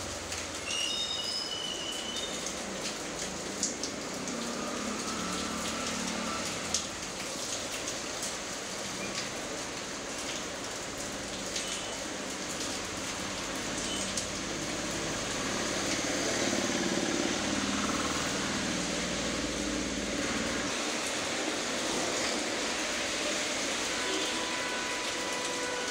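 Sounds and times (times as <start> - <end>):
rain on wet paving: 0.0 - 25.9.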